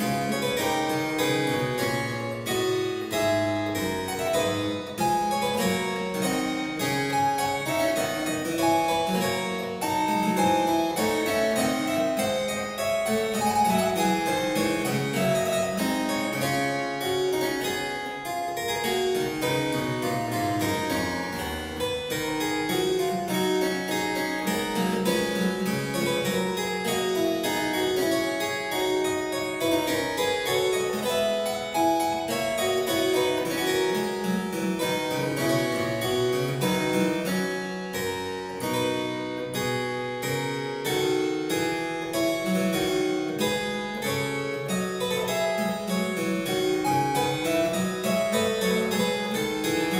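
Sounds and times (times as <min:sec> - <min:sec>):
solo harpsichord playing: 0:00.0 - 0:49.9.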